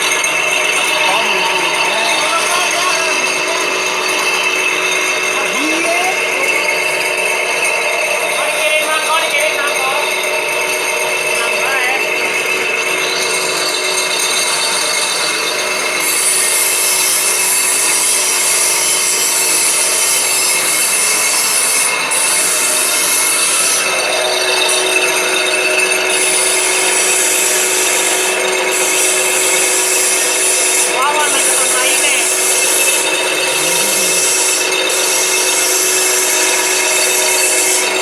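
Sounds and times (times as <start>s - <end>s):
higher-pitched machine noise: 0.0s - 38.0s
pipe bending machine scraping: 0.0s - 38.0s.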